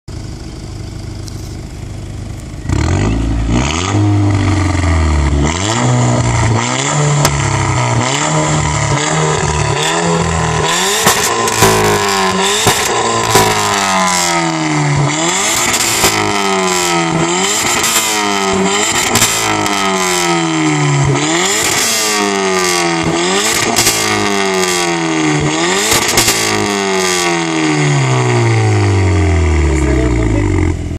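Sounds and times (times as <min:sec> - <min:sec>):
car engine revving: 0:00.4 - 0:30.9
exhaust cracks: 0:00.9 - 0:30.9.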